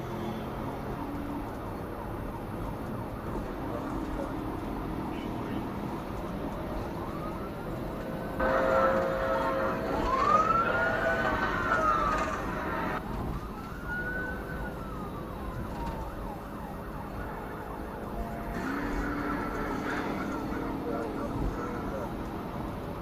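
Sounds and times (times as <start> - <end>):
vehicle and road noise: 0.0 - 23.0
police siren wailing: 0.3 - 23.0.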